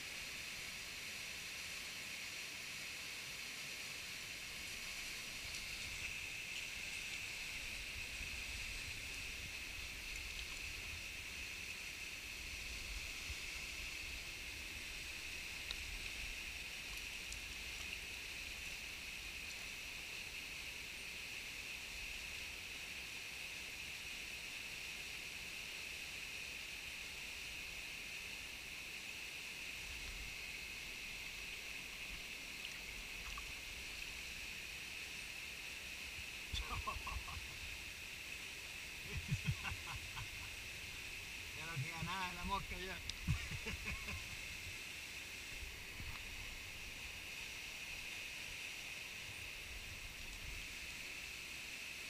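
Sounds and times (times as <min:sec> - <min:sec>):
waterfall and stream rushing: 0:00.0 - 0:24.2, 0:25.0 - 0:52.0.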